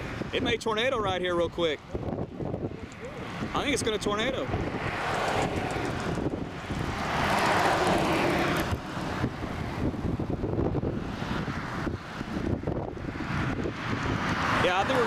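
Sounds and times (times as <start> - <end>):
wind on microphone: 0.0 - 15.0
car passing: 1.7 - 15.0.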